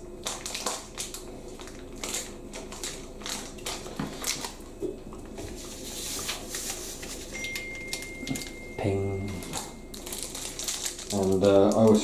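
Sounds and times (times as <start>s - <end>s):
faint steady hum: 0.0s - 12.0s
plastic packaging crinkling: 0.2s - 4.8s, 5.5s - 12.0s.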